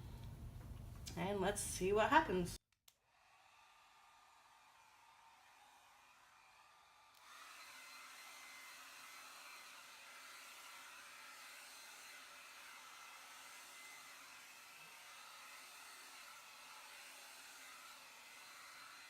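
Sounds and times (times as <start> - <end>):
hair dryer running: 3.0 - 19.0.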